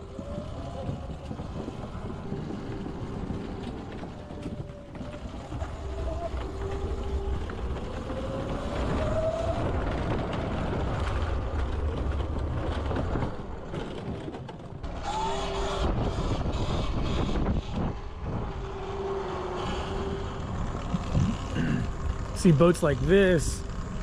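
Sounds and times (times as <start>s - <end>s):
wind rushing over microphone: 0.0s - 23.4s
electric bike whine: 0.0s - 24.0s.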